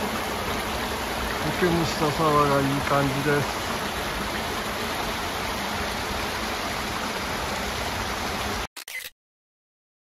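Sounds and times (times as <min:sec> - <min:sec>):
stream running over rocks: 0:00.0 - 0:08.7.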